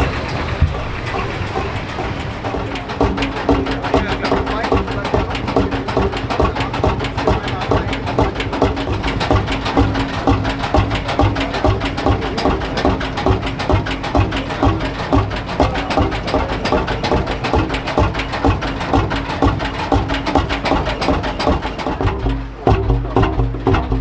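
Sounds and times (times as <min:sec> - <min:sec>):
engine idling with rapid knocking: 0:00.0 - 0:24.0.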